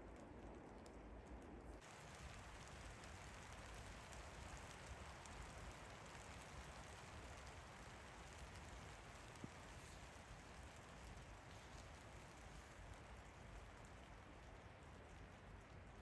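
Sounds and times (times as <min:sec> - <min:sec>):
rain falling: 0:01.8 - 0:16.0.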